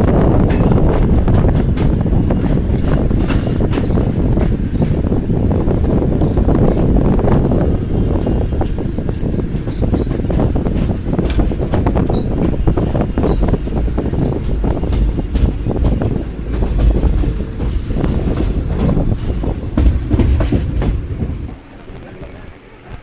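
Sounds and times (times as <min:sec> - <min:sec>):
wheels clattering over rail joints: 0:00.0 - 0:05.2, 0:06.3 - 0:23.0
train wheels rumbling: 0:00.0 - 0:23.0.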